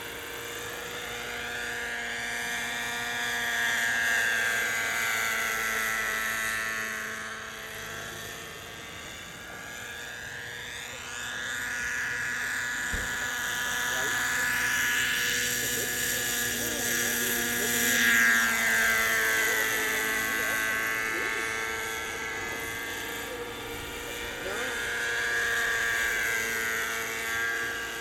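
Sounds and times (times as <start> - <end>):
model helicopter engine whine: 0.0 - 28.0.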